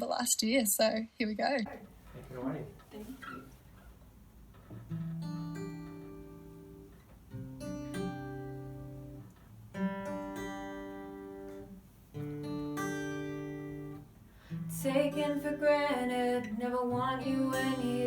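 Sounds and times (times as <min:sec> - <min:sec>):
acoustic guitar chords ringing: 0:01.7 - 0:18.0.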